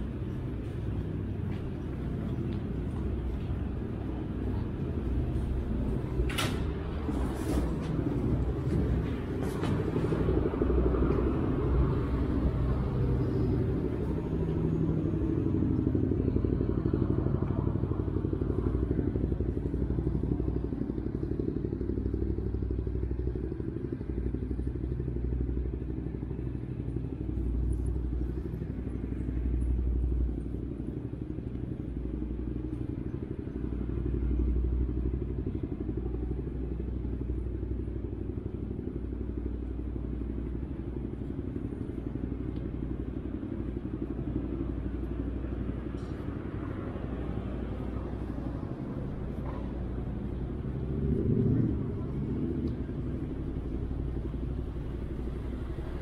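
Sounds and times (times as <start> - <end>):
engines humming: 0.0 - 56.0
traffic rumble: 0.0 - 56.0.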